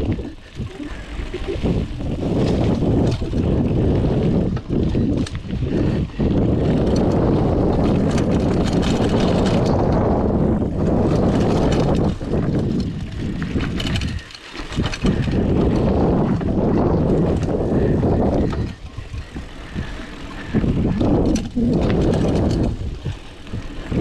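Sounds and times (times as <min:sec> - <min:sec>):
bike rattling over bumps: 0:00.0 - 0:24.0
bike tyres on dirt: 0:00.0 - 0:24.0
wind noise: 0:00.0 - 0:24.0.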